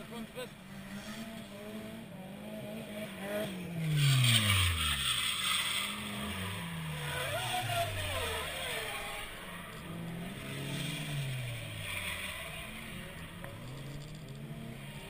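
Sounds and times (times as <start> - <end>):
car engine revving hard: 0.7 - 15.0.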